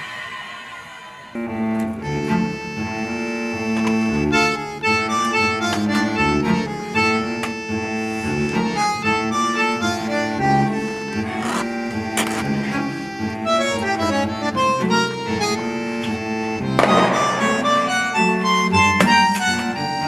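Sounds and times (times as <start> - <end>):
accordion-like melody with light beat: 1.7 - 20.0.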